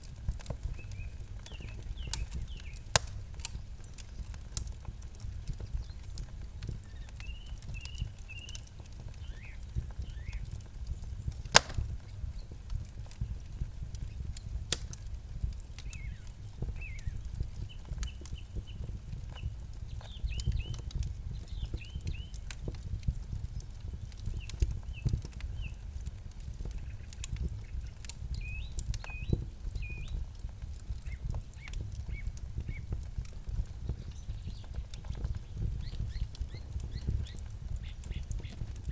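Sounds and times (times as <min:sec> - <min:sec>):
campfire crackling and popping: 0:00.0 - 0:38.9
small birds chirping: 0:00.2 - 0:38.9.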